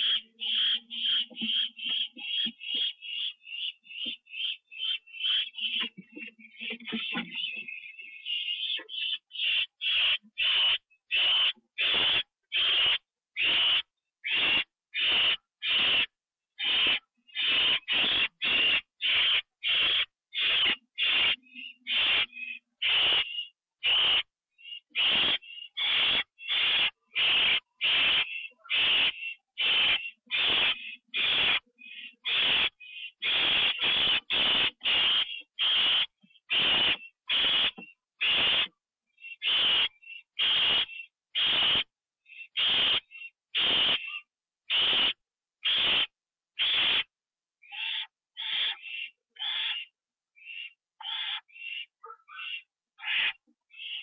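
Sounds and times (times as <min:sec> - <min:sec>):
barn owl hissing: 0:00.0 - 0:05.9, 0:06.5 - 0:41.9, 0:42.5 - 0:47.1.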